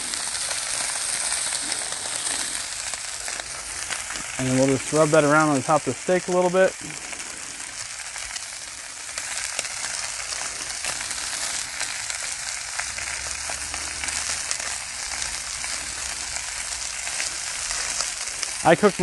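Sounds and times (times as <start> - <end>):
steaks sizzling on griddle: 0.0 - 19.0.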